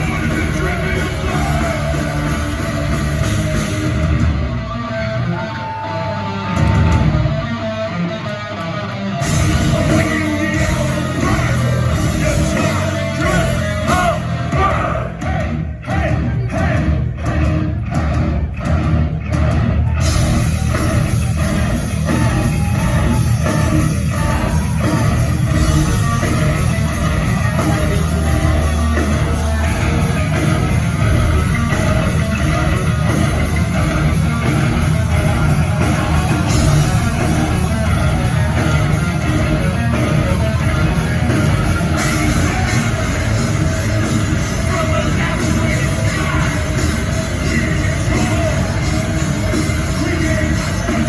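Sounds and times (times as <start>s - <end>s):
distorted electric guitar: 0.0s - 51.0s
heavy metal band playing: 0.0s - 51.0s.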